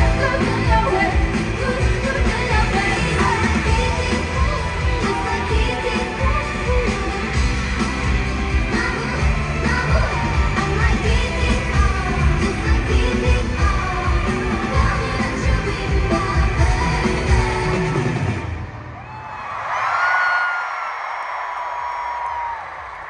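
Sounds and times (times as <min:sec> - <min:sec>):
pop song with female vocals: 0:00.0 - 0:18.6.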